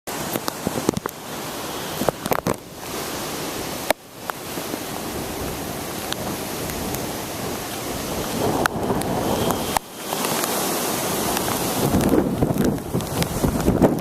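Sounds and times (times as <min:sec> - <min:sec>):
hurricane wind rushing: 0:00.1 - 0:14.0
wind buffeting microphone: 0:01.9 - 0:14.0.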